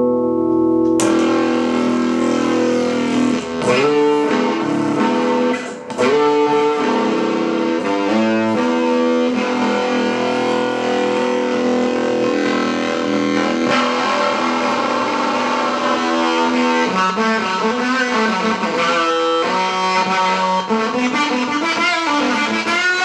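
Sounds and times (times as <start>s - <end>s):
fuzzed electric guitar chords: 0.0s - 23.0s.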